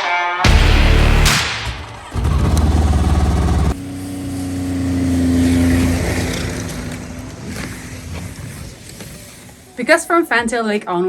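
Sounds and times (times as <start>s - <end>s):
snowmobile engines running: 0.5s - 10.8s.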